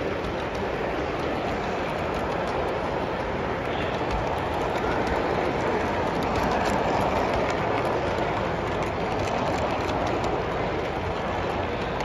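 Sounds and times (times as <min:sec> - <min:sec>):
clicking over rail joints: 0:00.0 - 0:12.0
model train wheels rolling on rails: 0:00.0 - 0:12.0.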